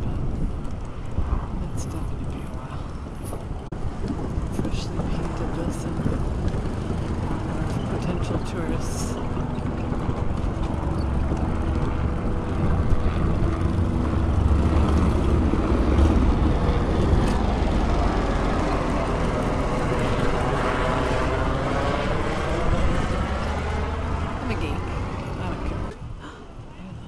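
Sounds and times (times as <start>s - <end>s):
helicopter rotor rumble: 0.0s - 27.0s.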